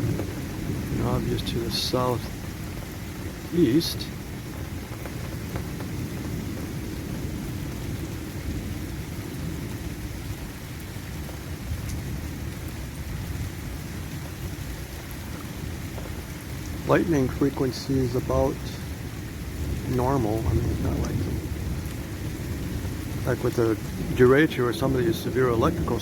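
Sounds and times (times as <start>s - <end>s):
light rain: 0.0s - 26.0s
low roar of thunderstorm: 0.0s - 26.0s.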